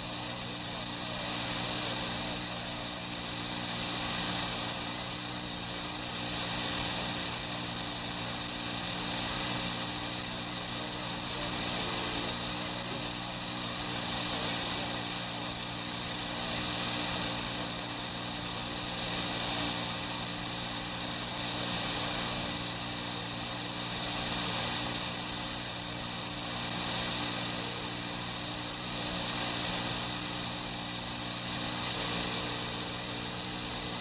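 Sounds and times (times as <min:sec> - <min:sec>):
electrical hum and tape hiss: 0:00.0 - 0:34.0.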